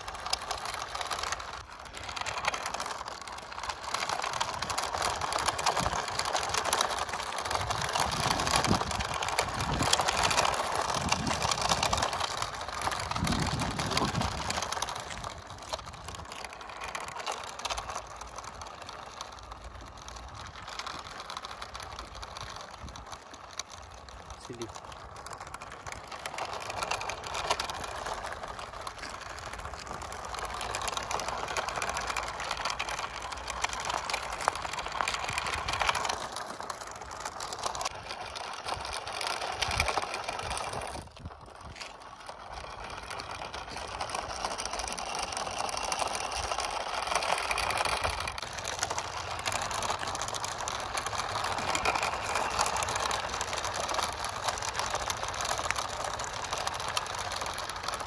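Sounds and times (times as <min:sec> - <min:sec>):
gearbox grinding chatter: 0:00.0 - 0:58.0
toy truck motor whirring: 0:00.0 - 0:58.0.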